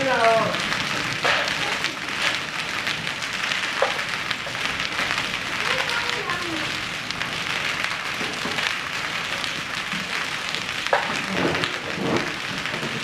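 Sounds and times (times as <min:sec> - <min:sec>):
hail and heavy rain pelting: 0:00.0 - 0:13.0
sharp hail hit: 0:00.0 - 0:13.0.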